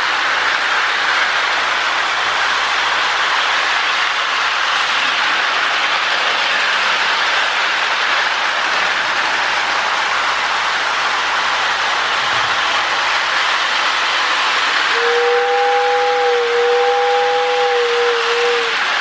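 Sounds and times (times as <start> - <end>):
model train whirring on rails: 0.0 - 19.0.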